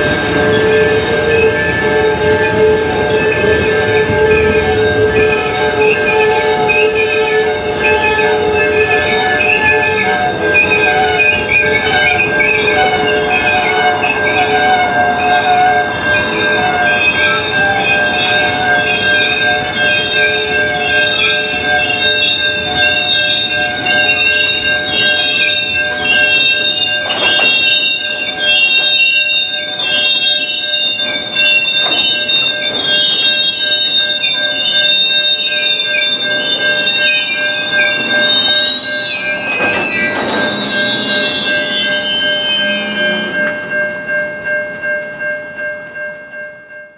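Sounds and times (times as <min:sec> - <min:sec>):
train wheels squealing on rails: 0:00.0 - 0:45.2
rumble of passing rail cars: 0:00.0 - 0:46.7.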